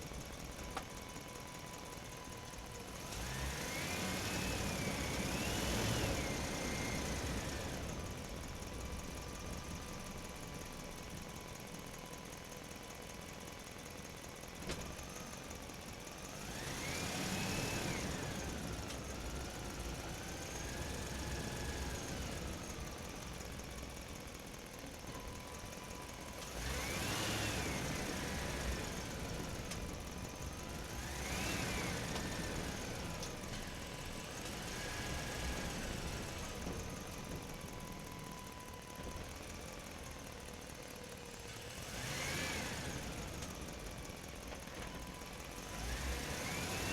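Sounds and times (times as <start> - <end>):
excavator diesel engine whining: 0.0 - 46.9.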